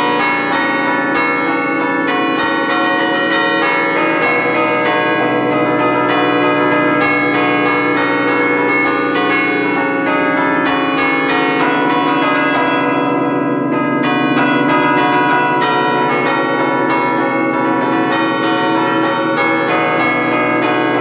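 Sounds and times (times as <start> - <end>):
church bells playing a tune: 0.0 - 21.0.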